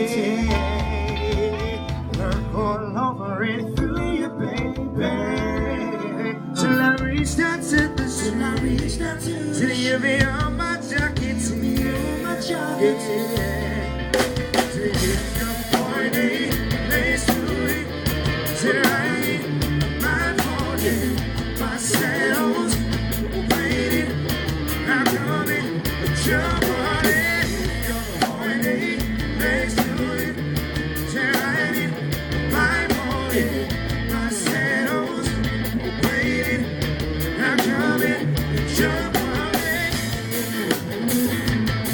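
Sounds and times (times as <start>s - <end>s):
reggae band playing: 0.0s - 41.9s.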